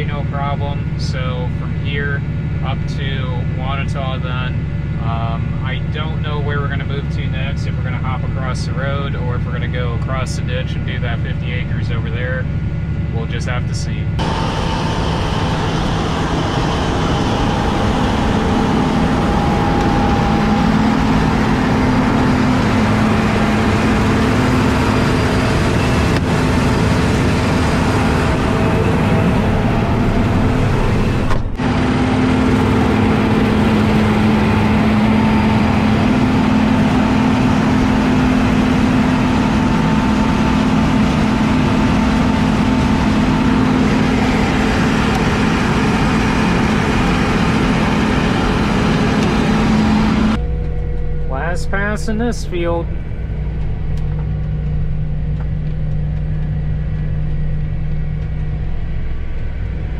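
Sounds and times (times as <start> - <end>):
diesel farm machinery engine drone: 0.0 - 59.9.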